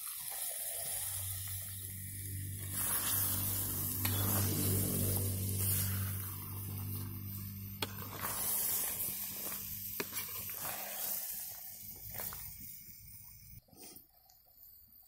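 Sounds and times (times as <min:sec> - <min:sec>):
chicken sizzling in a metal pan: 0:00.0 - 0:13.3.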